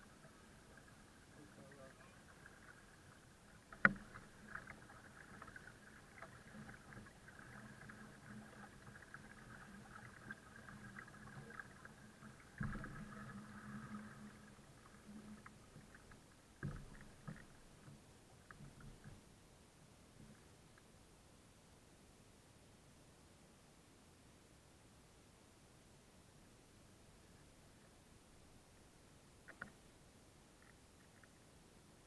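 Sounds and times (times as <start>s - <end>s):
faint water sounds: 0.0s - 32.0s.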